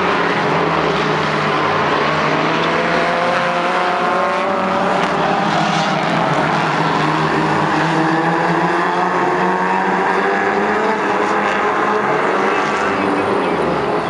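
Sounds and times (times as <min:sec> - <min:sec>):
racing car engines at speed: 0:00.0 - 0:14.0.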